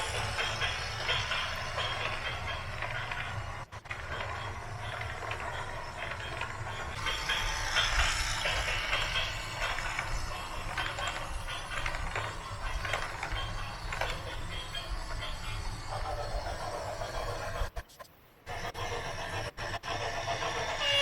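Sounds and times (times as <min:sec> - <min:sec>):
machinery rattling and clanking: 0:00.0 - 0:17.8.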